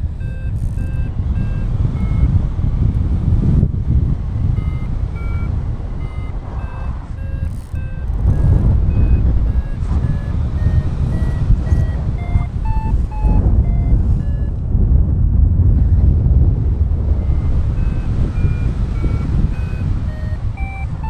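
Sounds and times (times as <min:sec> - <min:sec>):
variometer beeping: 0:00.0 - 0:14.7, 0:17.0 - 0:21.0
wind rush on microphone: 0:00.0 - 0:21.0.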